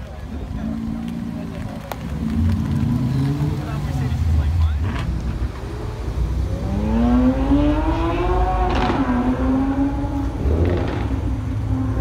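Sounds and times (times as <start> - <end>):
car engine accelerating hard: 0.3 - 12.0.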